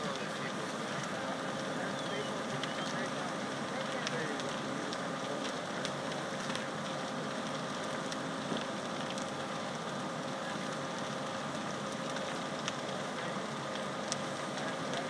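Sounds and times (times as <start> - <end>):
fire engine pump running: 0.0 - 15.0
pops and crackles of fire: 0.0 - 15.0.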